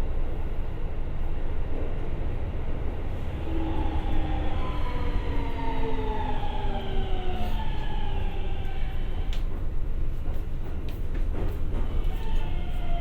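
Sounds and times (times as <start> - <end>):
train running gear rumble: 0.0 - 13.0.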